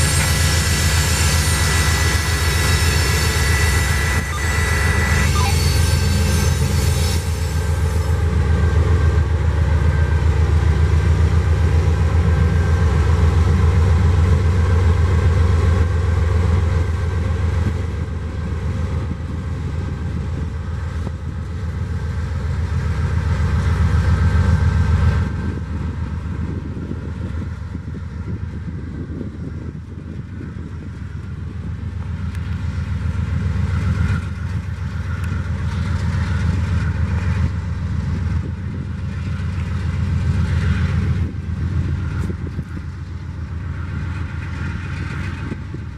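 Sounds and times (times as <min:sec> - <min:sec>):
freight train rolling past: 0:00.0 - 0:45.9.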